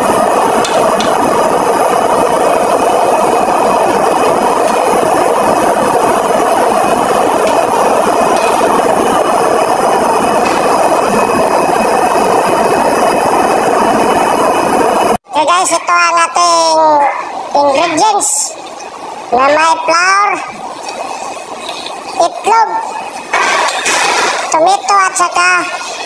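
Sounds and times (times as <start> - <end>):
pot of water boiling: 0.0 - 26.0.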